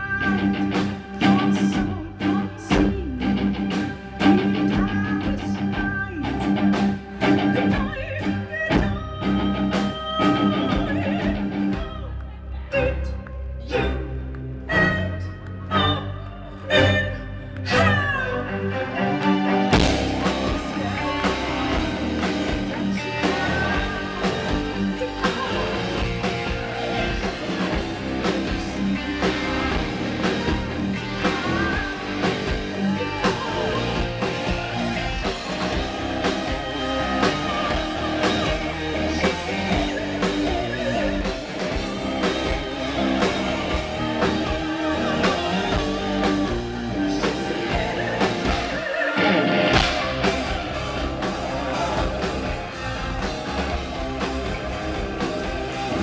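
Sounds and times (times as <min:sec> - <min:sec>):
metal band playing live: 0:00.0 - 0:11.8, 0:18.4 - 0:56.0
woman singing lead: 0:00.0 - 0:56.0.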